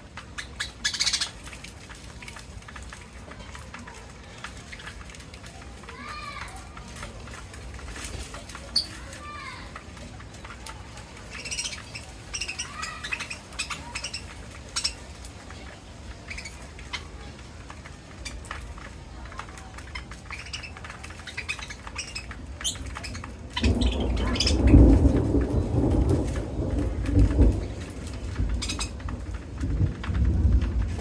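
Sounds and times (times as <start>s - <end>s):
parrots chirping and squawking: 0.1s - 2.9s, 4.4s - 26.5s, 27.2s - 29.1s.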